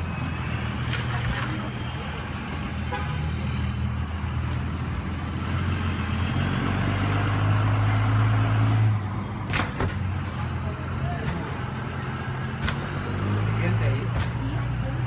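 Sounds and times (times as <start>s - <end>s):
large vehicle engine running: 0.0s - 15.0s.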